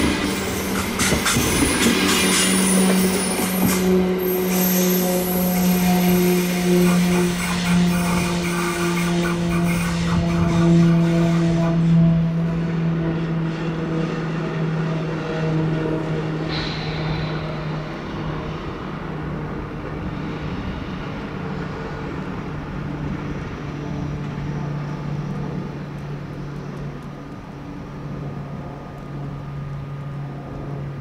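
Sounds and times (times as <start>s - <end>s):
train electric hum: 0.0s - 31.0s
train rumbling running noise: 0.0s - 31.0s.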